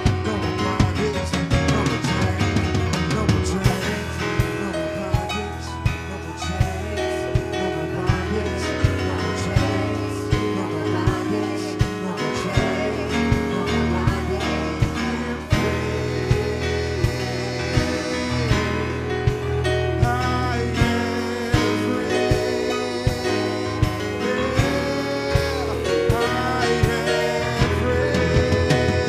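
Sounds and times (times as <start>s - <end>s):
steady drum beat: 0.0s - 29.0s
worship band playing: 0.0s - 29.0s.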